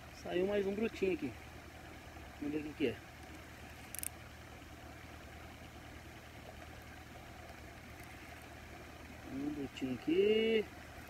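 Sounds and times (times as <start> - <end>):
faint low engine hum: 0.0 - 11.0.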